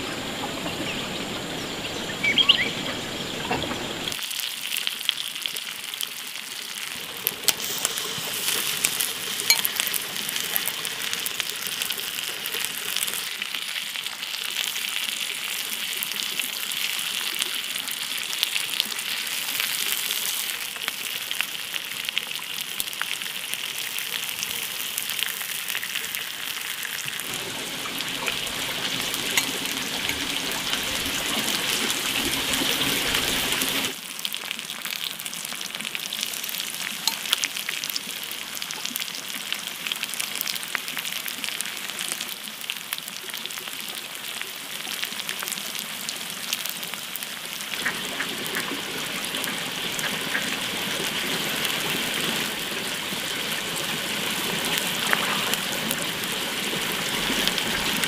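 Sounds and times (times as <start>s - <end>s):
mussels sizzling on a grill: 0.6s - 58.0s.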